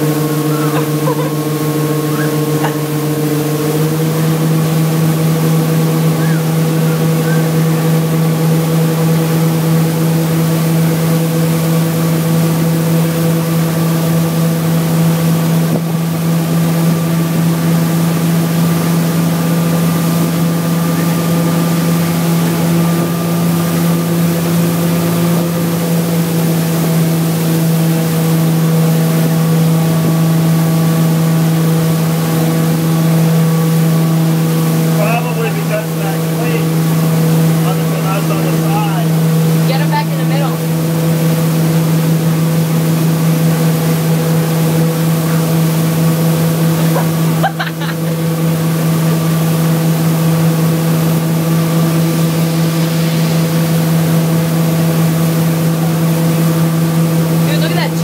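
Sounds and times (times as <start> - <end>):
motorboat engine hum: 0.0 - 58.0
rush of wake and spray: 0.0 - 58.0.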